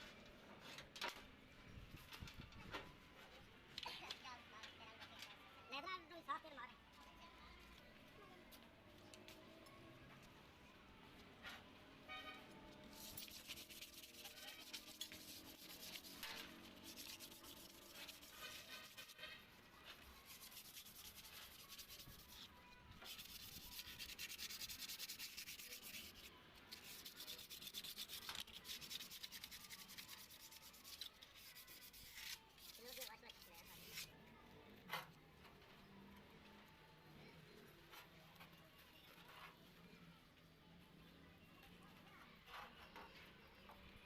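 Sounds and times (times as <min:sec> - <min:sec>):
faint scraping and rubbing: 0:07.0 - 0:44.0.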